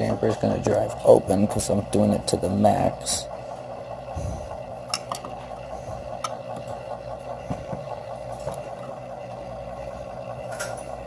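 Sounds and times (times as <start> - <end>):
damper actuator motor running: 0.0 - 11.0.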